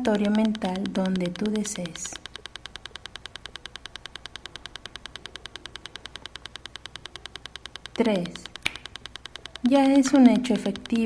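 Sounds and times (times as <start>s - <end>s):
rapid sharp clicks: 0.0s - 11.0s.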